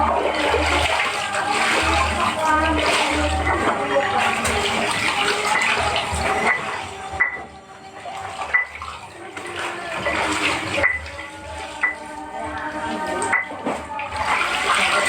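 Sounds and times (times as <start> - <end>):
water sloshing in a tub: 0.0 - 15.0.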